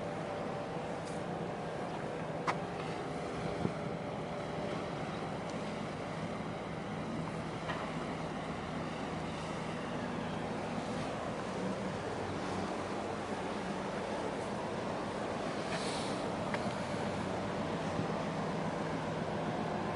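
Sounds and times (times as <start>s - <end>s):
ship engine drone: 0.0s - 19.9s.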